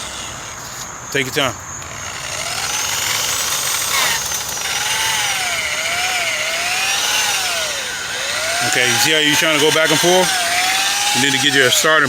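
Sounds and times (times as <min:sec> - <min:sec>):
buffer motor whining: 0:00.0 - 0:00.8, 0:01.8 - 0:12.0.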